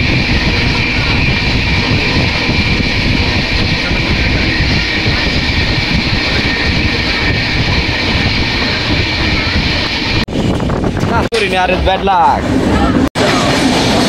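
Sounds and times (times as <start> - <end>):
thin high whine: 0.0 - 14.0
train rumbling: 0.0 - 14.0.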